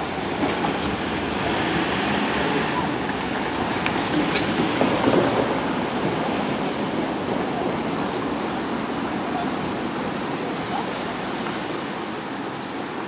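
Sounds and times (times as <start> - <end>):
road traffic: 0.0 - 13.0
tram running: 0.0 - 13.0.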